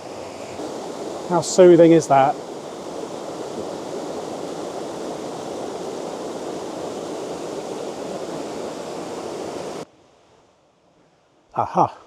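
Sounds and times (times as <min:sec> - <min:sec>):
water rushing over rocks: 0:00.0 - 0:09.8.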